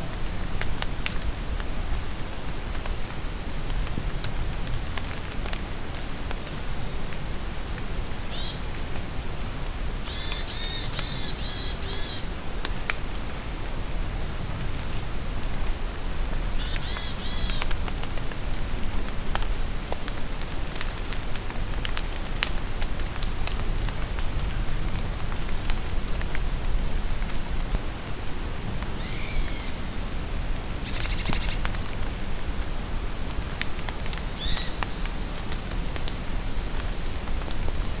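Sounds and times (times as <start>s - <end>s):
rain drops ticking: 0.0s - 38.0s.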